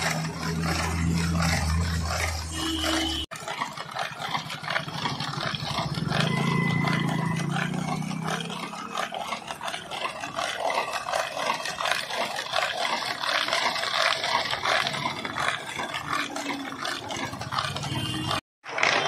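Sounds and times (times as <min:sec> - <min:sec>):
ice chunks rattling: 0:00.0 - 0:19.0
ice grinding against metal and wood: 0:00.0 - 0:19.0.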